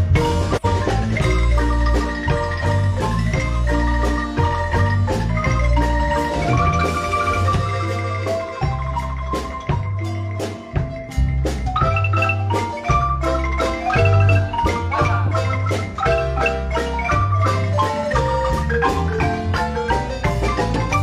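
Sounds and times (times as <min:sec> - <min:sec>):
low bass line: 0:00.0 - 0:21.0
marimba melody: 0:00.0 - 0:21.0.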